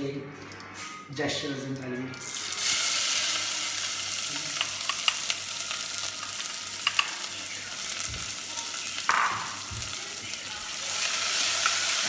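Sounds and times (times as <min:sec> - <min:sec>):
onions sizzling in oil: 0:02.2 - 0:12.0.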